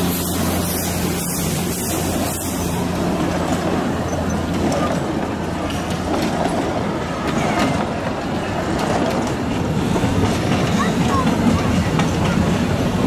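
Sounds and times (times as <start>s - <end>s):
train wagons rumbling on track: 0.0s - 13.0s
wheels clicking over rails: 0.0s - 13.0s.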